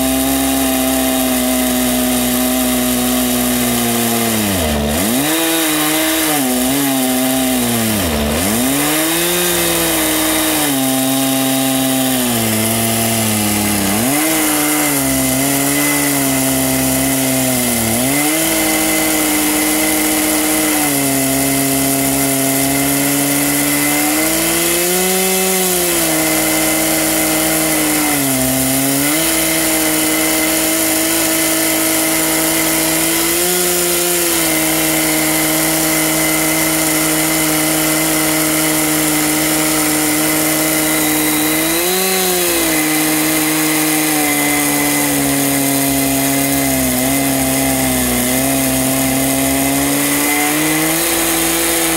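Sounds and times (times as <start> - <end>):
chainsaw cutting log: 0.0 - 51.9.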